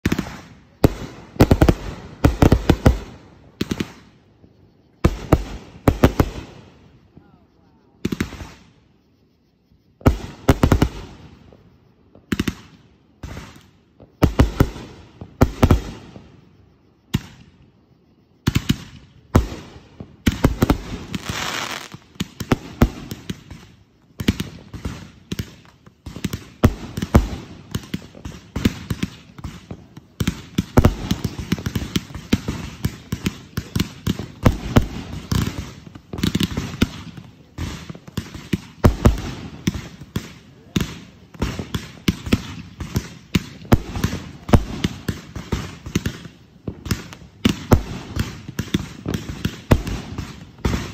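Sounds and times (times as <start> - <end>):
fireworks bangs and crackling: 0.0 - 9.0, 10.0 - 50.9.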